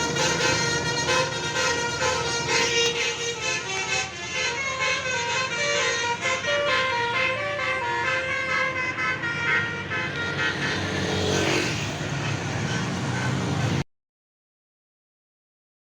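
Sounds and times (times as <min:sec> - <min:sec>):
bus engine running: 0:00.0 - 0:13.8
multi-tone bus horn tune: 0:00.0 - 0:13.8.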